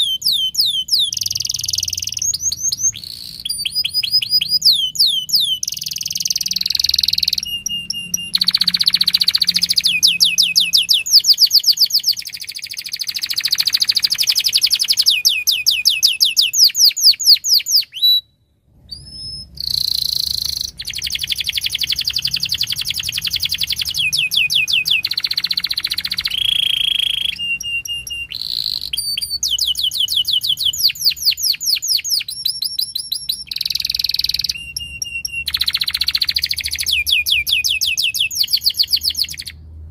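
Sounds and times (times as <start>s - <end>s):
canary singing trills: 0.0s - 39.6s.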